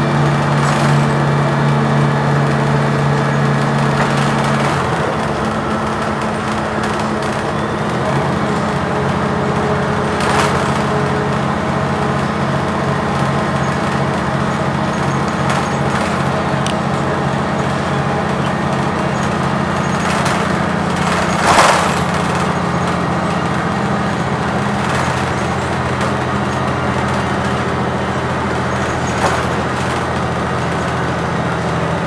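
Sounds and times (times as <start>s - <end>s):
bus engine humming: 0.0s - 32.0s.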